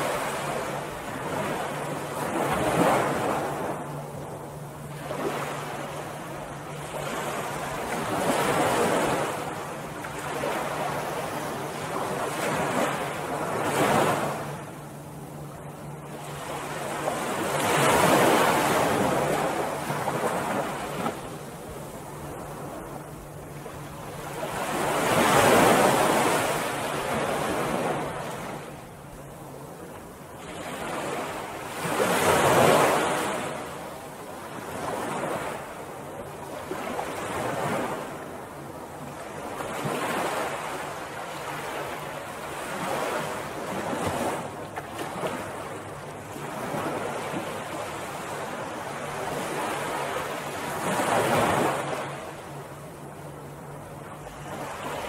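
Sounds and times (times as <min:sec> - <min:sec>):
ocean surf on beach: 0:00.0 - 0:55.0.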